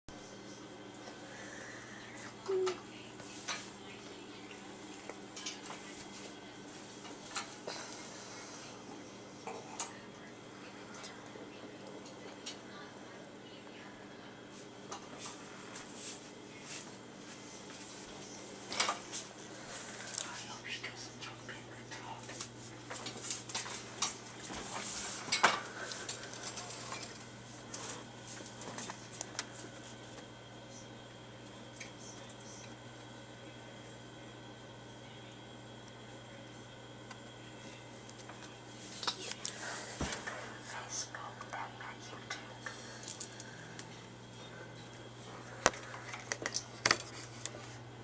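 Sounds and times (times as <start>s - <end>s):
steady low hum: 0.1s - 48.0s.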